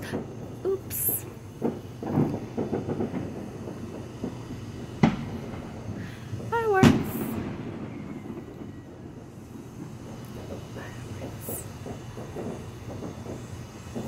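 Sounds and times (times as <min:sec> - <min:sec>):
distant fireworks exploding: 0:00.0 - 0:14.0
steady low rumble: 0:00.0 - 0:14.0.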